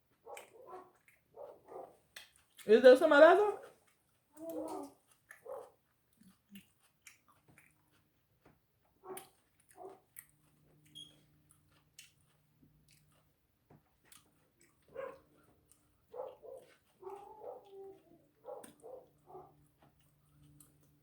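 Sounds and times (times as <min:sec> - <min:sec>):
faint chewing: 0:00.0 - 0:21.0.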